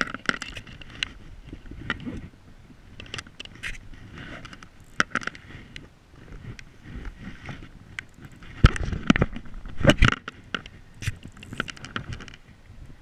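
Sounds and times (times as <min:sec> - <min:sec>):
hand rubbing camera housing: 0:00.0 - 0:02.3, 0:02.9 - 0:12.5.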